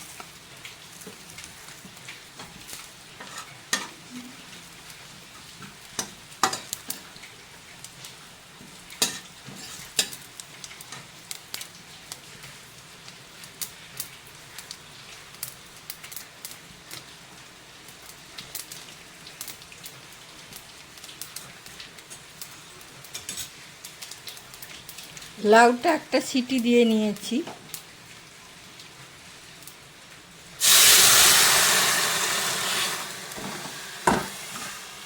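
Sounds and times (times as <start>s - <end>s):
hot oil sizzling and popping: 0.0s - 35.0s.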